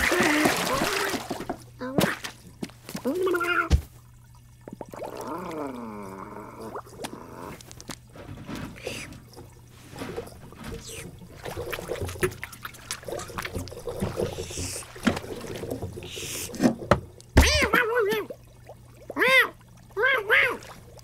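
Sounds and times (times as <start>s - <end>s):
cartoon water splashes and drips: 0.0s - 8.2s, 10.3s - 21.0s.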